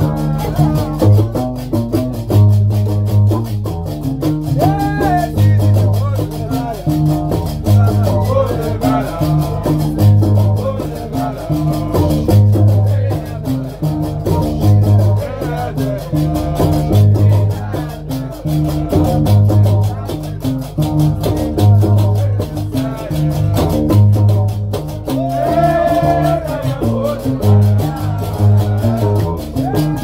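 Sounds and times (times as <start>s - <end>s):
person singing: 0.0s - 1.9s, 4.5s - 24.5s, 25.1s - 30.0s
plucked bass lute: 0.0s - 30.0s.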